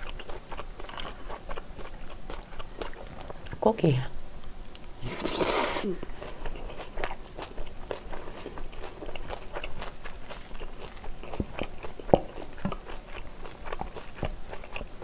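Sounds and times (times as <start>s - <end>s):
crunchy chewing: 0.0s - 3.6s, 4.4s - 15.0s.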